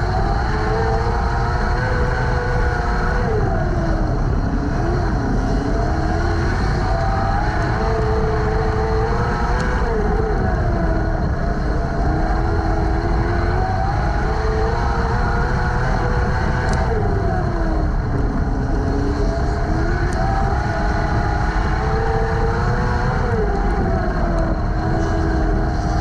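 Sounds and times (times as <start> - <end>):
race car engine running hard: 0.0 - 26.0.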